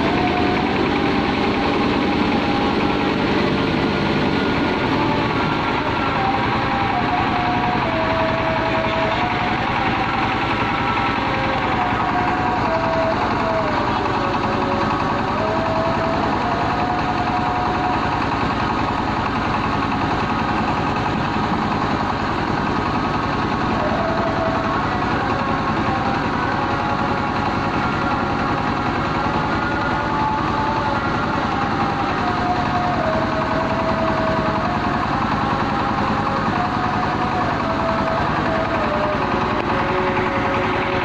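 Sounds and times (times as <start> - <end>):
diesel engine running: 0.0 - 41.0
machine whine: 0.0 - 41.0.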